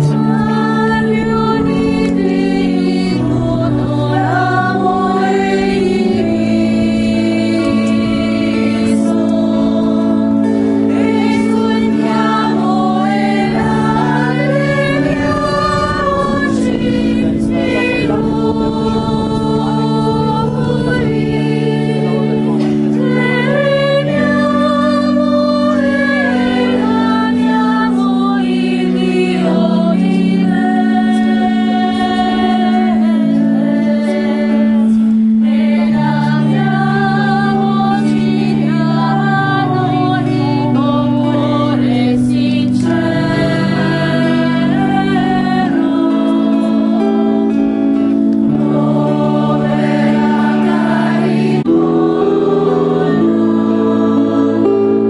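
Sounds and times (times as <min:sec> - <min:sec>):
choir singing a hymn: 0:00.0 - 0:55.0
low sustained accompaniment chords: 0:00.0 - 0:55.0.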